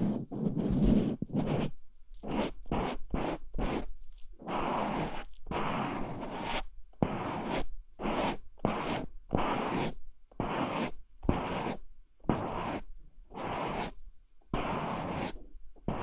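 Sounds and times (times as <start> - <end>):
scratchy rubbing on microphone: 0.0 - 16.0.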